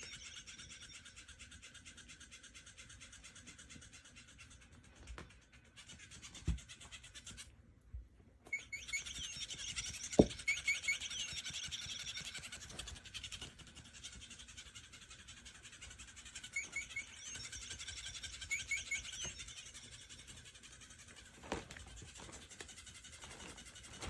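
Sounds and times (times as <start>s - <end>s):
small bird chirping: 0.0s - 7.5s, 8.5s - 24.0s.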